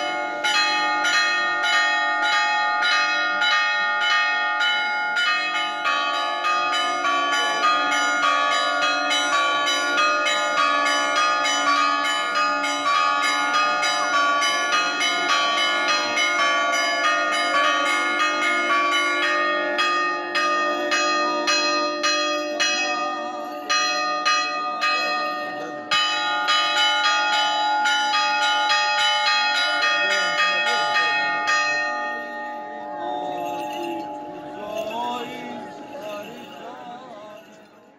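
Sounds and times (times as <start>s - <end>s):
church bells pealing: 0.0s - 37.9s.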